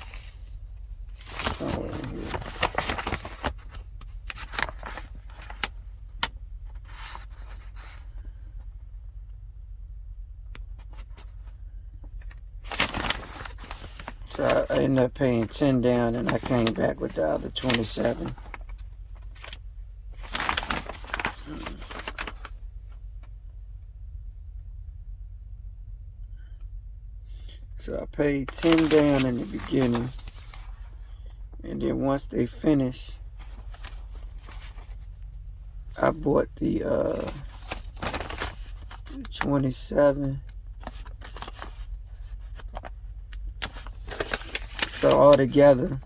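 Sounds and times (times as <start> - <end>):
paper rustling: 0.0 - 8.4, 10.6 - 22.7, 28.3 - 46.0
steady low hum: 0.0 - 46.0.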